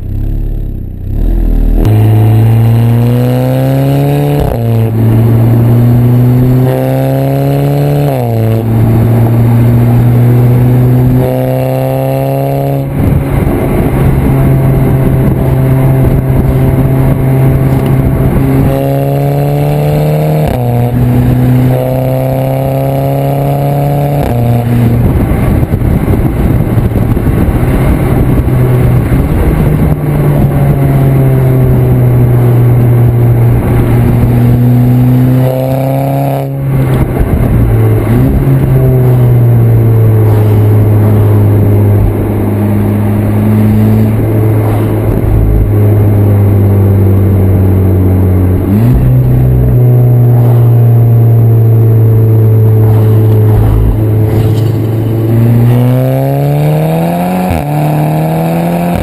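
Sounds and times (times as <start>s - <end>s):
car exhaust drone: 0.0s - 59.0s
road noise: 0.0s - 59.0s.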